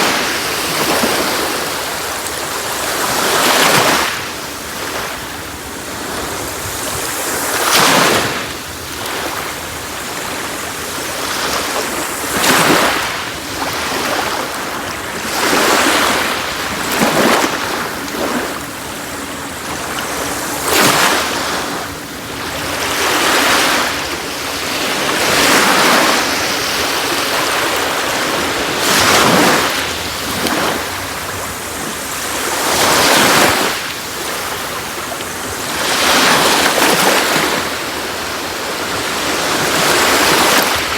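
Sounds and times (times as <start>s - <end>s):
sea waves breaking on a beach: 0.0s - 40.9s.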